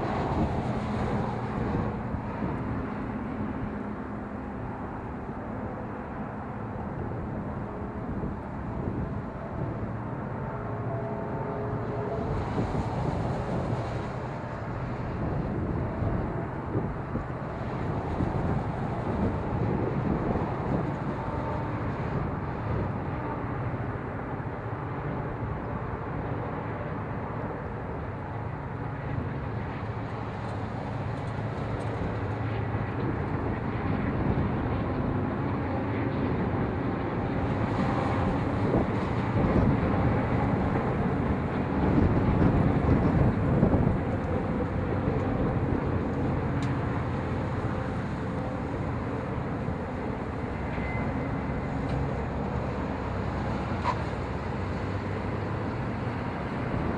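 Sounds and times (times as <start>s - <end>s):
train rumbling by: 0.0s - 56.9s.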